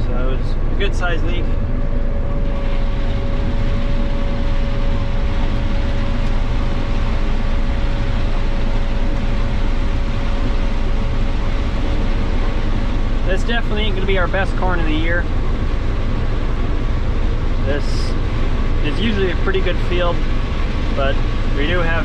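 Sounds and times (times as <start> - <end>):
combine harvester drone: 0.0 - 22.0
steady mechanical whine: 0.0 - 22.0.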